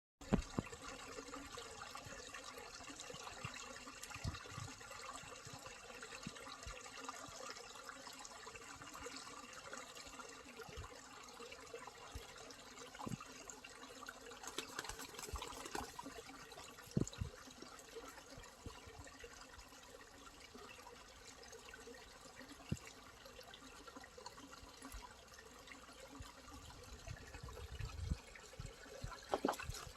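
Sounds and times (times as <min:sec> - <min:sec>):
stream water trickling: 0:00.2 - 0:29.9.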